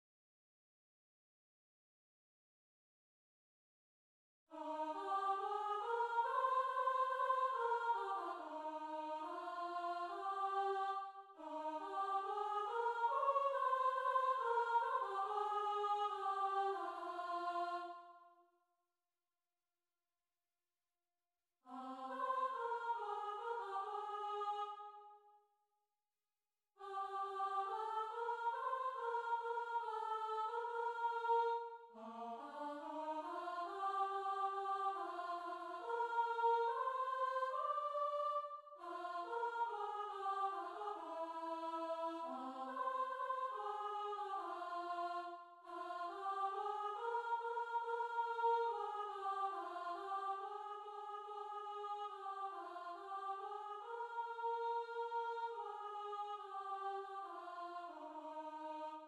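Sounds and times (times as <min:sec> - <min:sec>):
unaccompanied soprano choral singing: 0:04.5 - 0:18.2, 0:21.7 - 0:25.0, 0:26.8 - 0:59.0.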